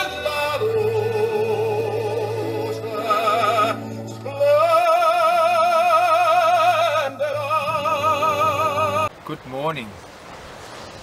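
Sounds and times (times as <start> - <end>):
person singing with vibrato: 0.0 - 9.1.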